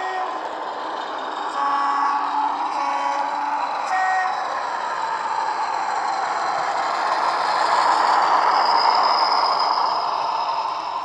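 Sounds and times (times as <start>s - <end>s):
model train diesel engine sound: 0.0s - 11.0s.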